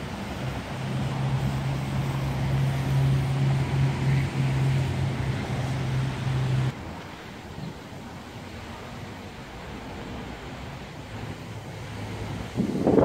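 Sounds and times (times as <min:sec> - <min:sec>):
water rushing: 0:00.0 - 0:13.0
wind hiss: 0:00.0 - 0:13.0.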